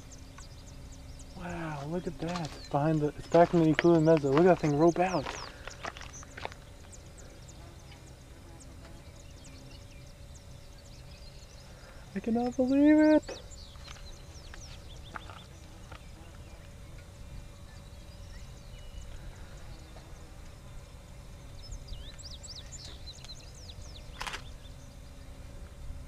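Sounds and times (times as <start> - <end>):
low steady rumble: 0.0 - 26.0
small birds chirping: 0.0 - 26.0.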